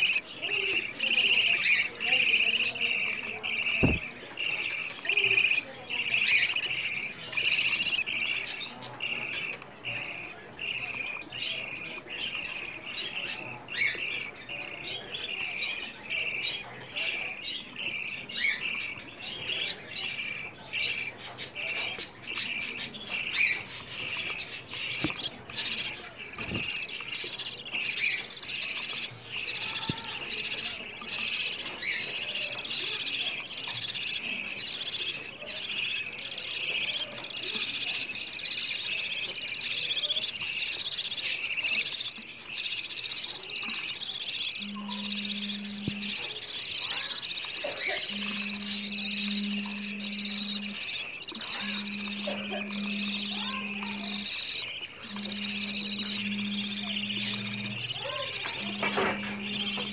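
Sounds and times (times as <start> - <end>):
budgerigars chirping: 0.0 - 59.9.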